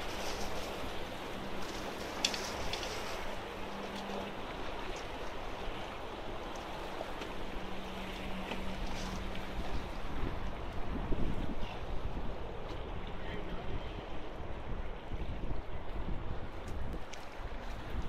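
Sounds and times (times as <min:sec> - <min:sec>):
waves splashing against rocks: 0:00.0 - 0:14.8.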